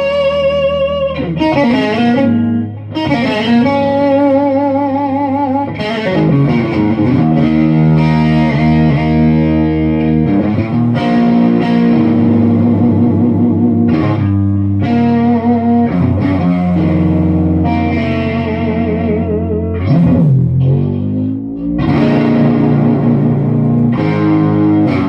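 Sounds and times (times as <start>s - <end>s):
electric guitar with vibrato: 0.0s - 25.0s.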